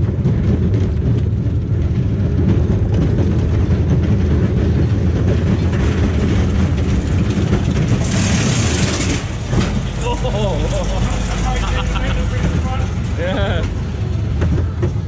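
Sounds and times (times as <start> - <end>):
roller coaster rumbling on track: 0.0 - 15.0.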